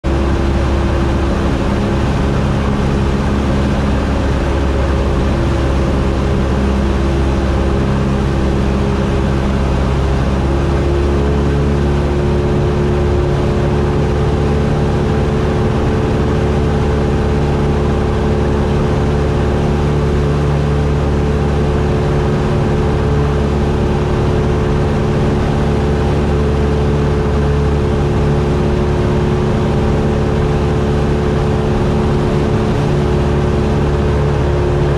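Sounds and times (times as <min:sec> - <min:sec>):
airplane engine droning: 0:00.0 - 0:34.9.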